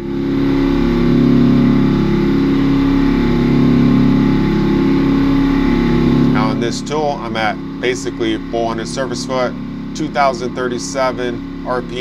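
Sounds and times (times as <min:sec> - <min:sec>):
end mill cutting metal hum: 0:00.0 - 0:12.0.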